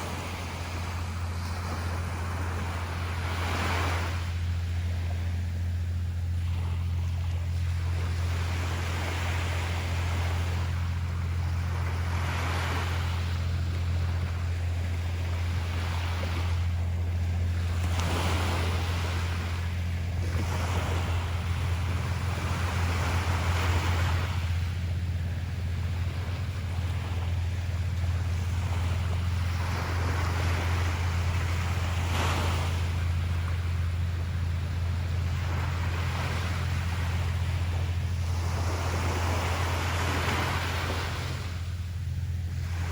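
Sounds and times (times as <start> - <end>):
low rumble: 0.0 - 42.9
ocean waves washing onto beach: 0.0 - 42.9
steady low hum: 0.0 - 42.9.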